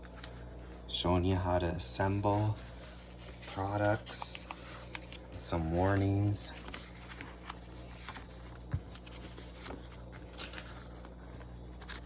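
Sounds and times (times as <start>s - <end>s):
paper booklet rustling: 0.0s - 12.0s
steady low hum: 0.0s - 12.0s.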